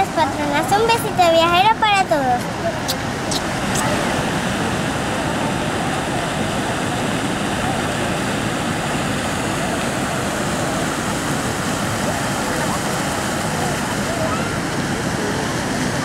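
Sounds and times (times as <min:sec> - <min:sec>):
fountain water jets rushing: 0:00.0 - 0:16.0.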